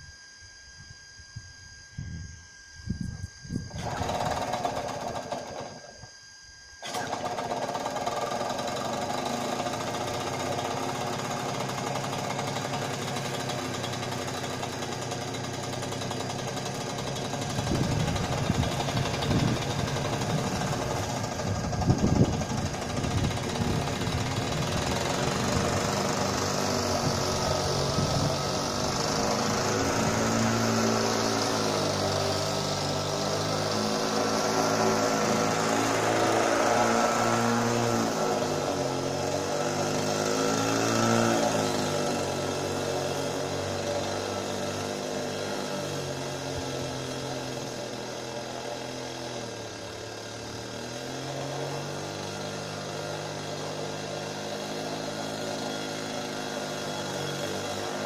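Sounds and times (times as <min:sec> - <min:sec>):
push mower engine cutting grass: 0:03.7 - 0:06.0, 0:06.8 - 0:58.0.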